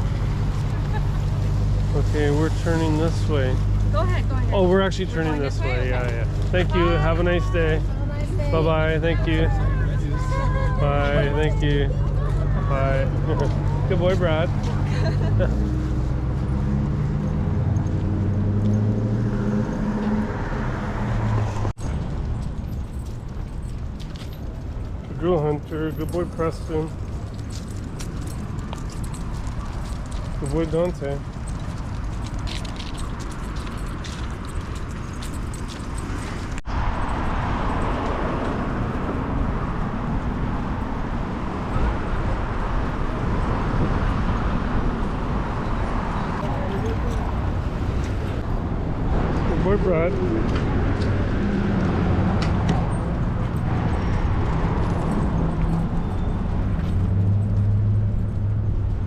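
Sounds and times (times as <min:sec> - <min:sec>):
city traffic rumble: 0:00.0 - 0:59.0
road noise: 0:00.0 - 0:59.0
vehicle engine humming: 0:00.0 - 0:59.0.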